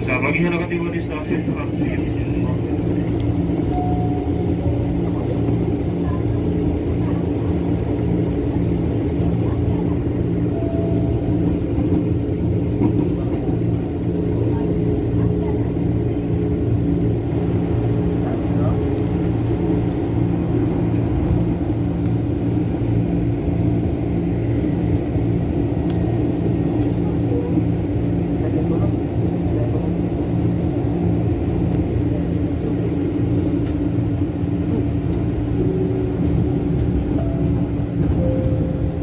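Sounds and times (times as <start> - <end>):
electric train humming drone: 0.0 - 39.0.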